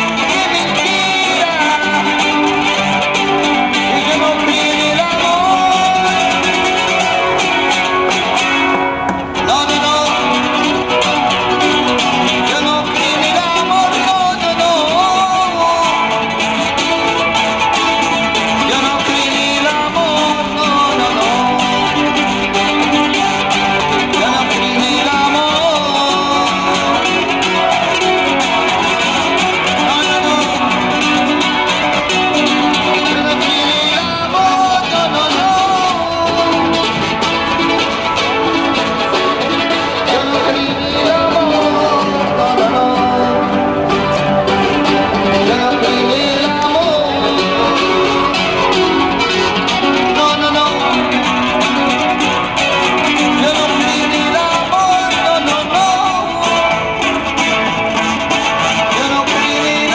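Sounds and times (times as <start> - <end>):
flamenco classical guitar: 0.0 - 59.9
man singing: 0.0 - 59.9.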